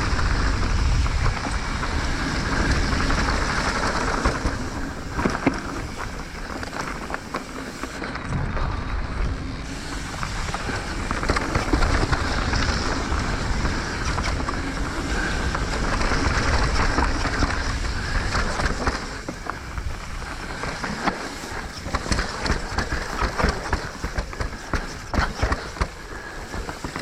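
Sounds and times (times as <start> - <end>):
bike rattling and knocking: 0.0 - 27.0
bike tyres rolling on dirt: 0.0 - 27.0
wind rushing over microphone: 0.0 - 27.0.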